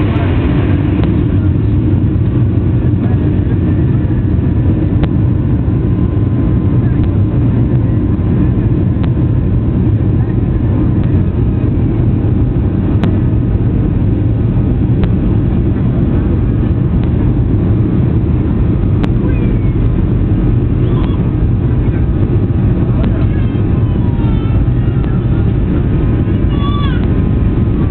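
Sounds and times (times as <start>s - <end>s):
jet engines rumbling: 0.0s - 27.9s.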